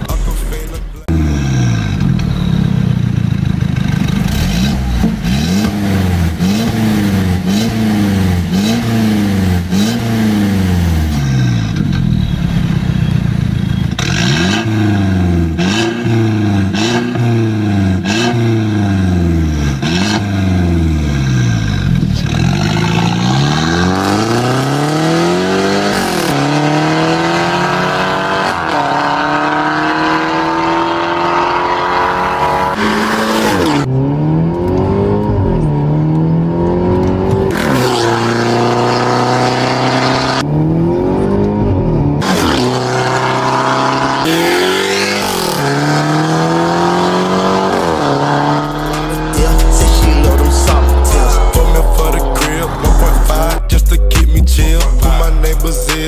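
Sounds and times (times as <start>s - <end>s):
car engine revving and accelerating: 1.0s - 12.9s, 13.5s - 56.0s.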